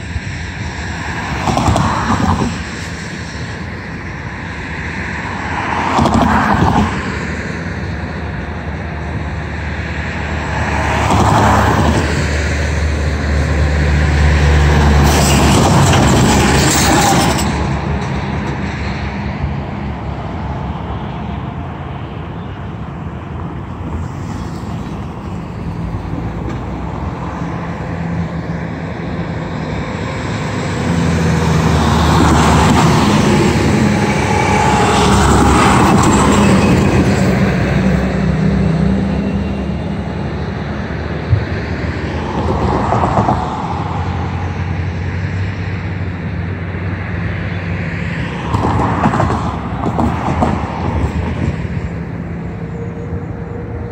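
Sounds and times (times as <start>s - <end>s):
road vehicles passing: 0.0s - 53.9s.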